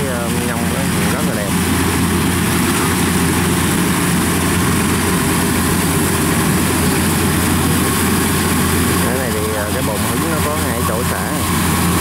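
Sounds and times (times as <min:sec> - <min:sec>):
combine harvester droning: 0:00.0 - 0:12.0
low hum: 0:00.0 - 0:12.0.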